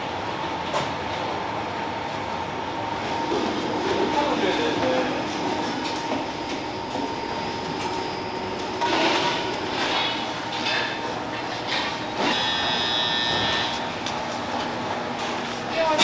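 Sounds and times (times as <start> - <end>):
factory machinery drone: 0.0 - 16.0.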